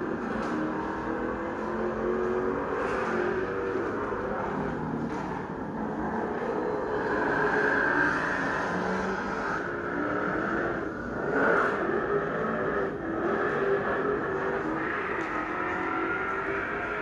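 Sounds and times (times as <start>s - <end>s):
muffled car engine revving: 0.0s - 17.0s.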